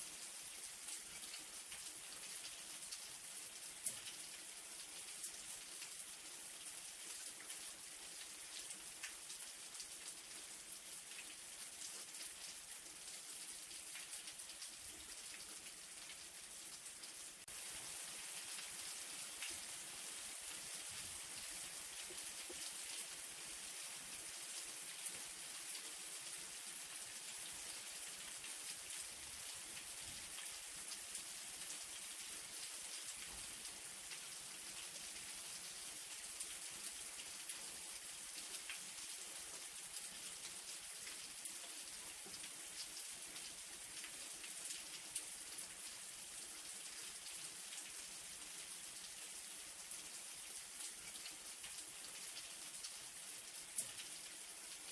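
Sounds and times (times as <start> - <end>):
light rain hissing: 0.0 - 54.9.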